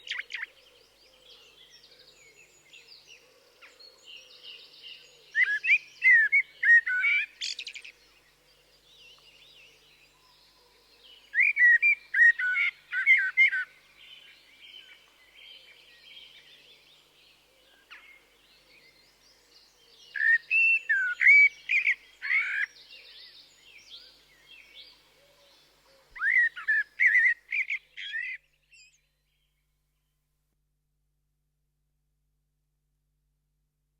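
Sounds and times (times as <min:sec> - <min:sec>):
blackbird singing: 0:00.0 - 0:03.2, 0:03.8 - 0:08.0, 0:08.8 - 0:29.5.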